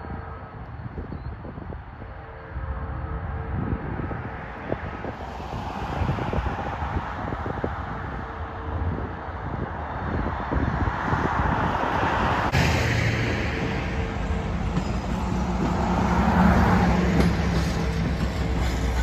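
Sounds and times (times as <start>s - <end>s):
wind buffeting microphone: 0.0s - 19.0s
cars passing: 3.6s - 19.0s.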